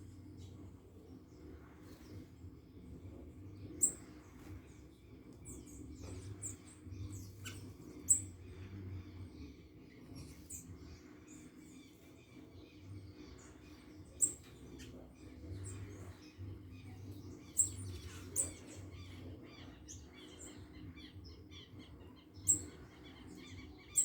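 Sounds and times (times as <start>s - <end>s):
low background hum: 0.0s - 24.0s
small birds chirping: 0.0s - 24.0s.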